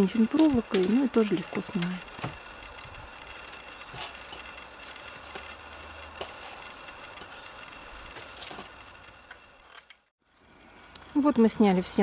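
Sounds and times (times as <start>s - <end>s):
rustling and scraping wood: 0.0s - 10.5s.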